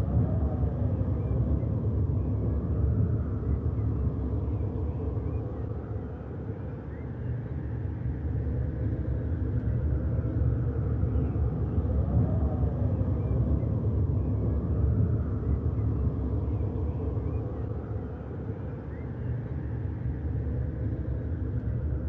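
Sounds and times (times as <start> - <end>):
steady low rumble: 0.0 - 6.5, 7.6 - 22.0.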